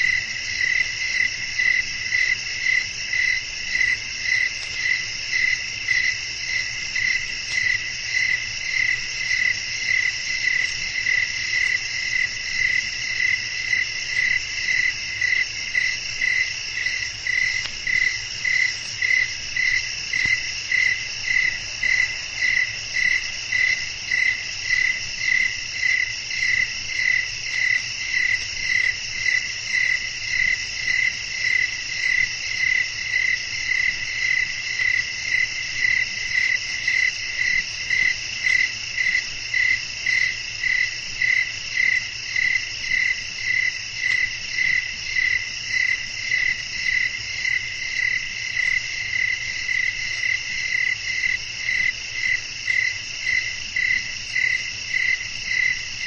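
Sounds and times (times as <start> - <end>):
cricket chirping: 0.0 - 56.0
high-pitched insect trill: 0.0 - 56.0.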